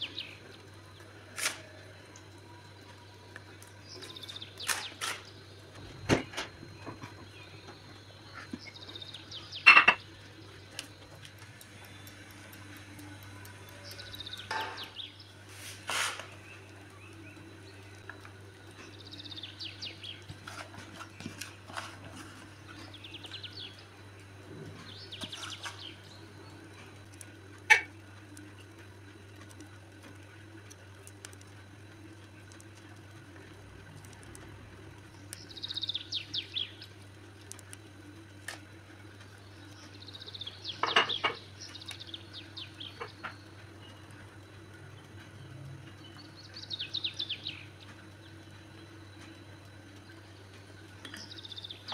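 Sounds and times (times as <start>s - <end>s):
low steady hum: 0.0s - 51.9s.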